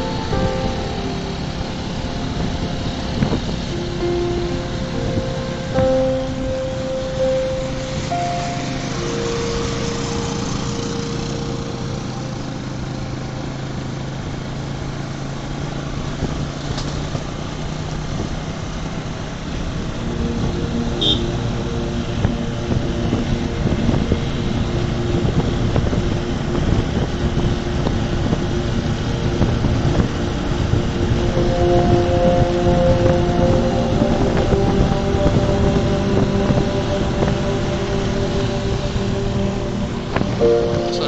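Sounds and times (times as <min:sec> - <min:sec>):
wind and road noise: 0:00.0 - 0:41.0.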